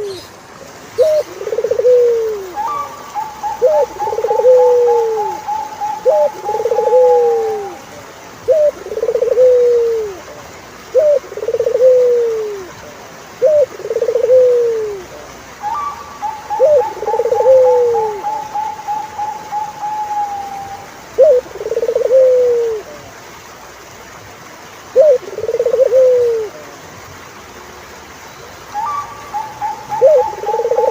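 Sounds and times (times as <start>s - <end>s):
turtle dove cooing: 0.0s - 23.4s, 24.9s - 26.8s, 28.6s - 30.9s.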